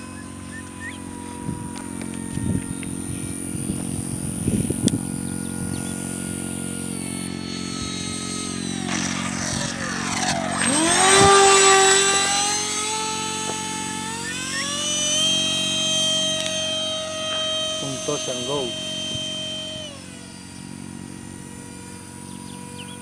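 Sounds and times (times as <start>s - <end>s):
model jet ducted fan whine: 0.0s - 23.0s.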